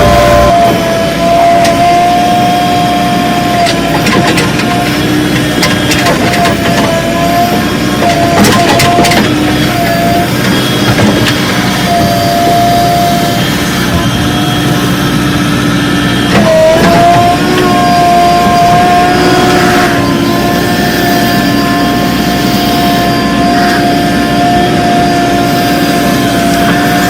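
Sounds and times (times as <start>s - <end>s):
diesel engine whining under load: 0.0s - 27.0s.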